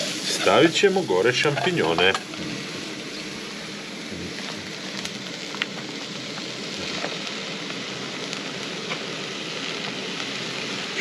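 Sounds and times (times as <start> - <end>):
meat and onions sizzling: 0.0 - 11.0.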